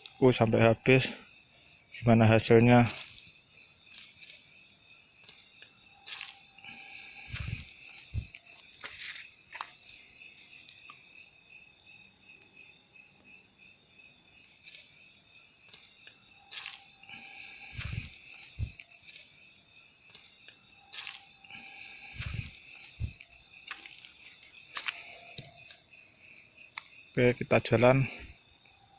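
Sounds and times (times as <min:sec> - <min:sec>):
crickets and insects trilling: 0:00.0 - 0:28.9.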